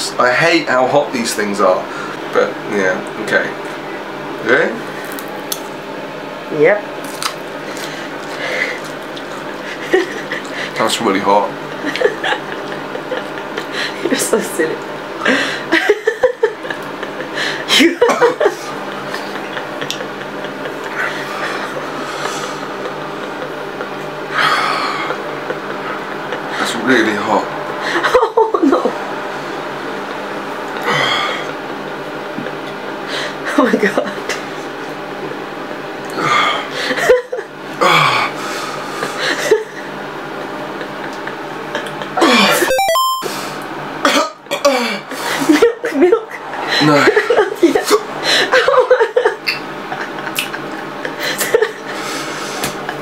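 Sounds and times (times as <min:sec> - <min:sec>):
steady background hum: 0:00.0 - 0:53.0.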